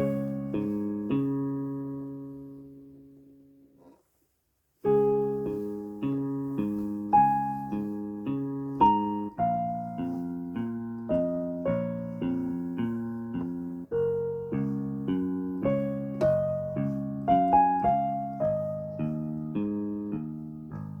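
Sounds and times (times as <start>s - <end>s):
slow piano melody: 0.0s - 3.9s, 4.8s - 21.0s.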